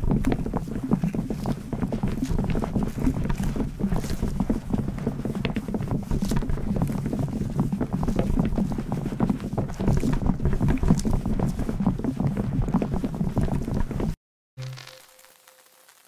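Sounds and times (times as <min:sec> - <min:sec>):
tennis balls jostling and tapping: 0:00.0 - 0:14.2.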